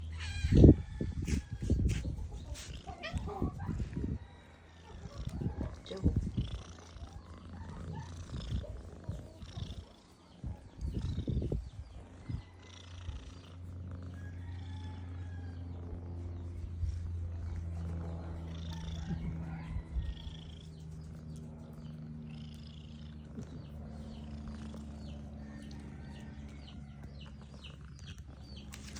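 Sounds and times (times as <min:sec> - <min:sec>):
cat purring rumble: 0:00.0 - 0:28.9.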